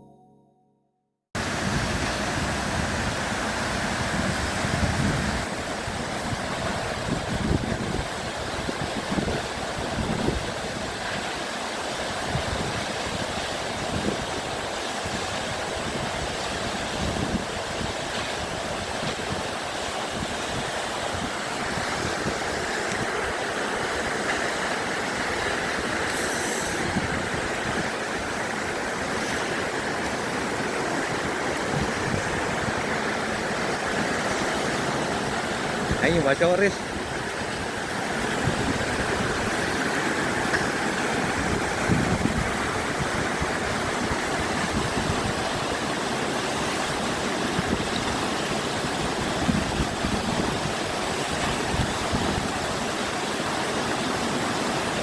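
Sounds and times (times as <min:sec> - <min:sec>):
waterfall roaring: 0:01.4 - 0:55.0.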